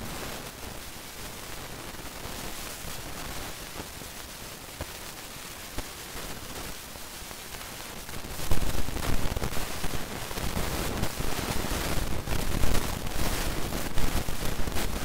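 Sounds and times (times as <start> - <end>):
microphone hiss: 0.0 - 15.0.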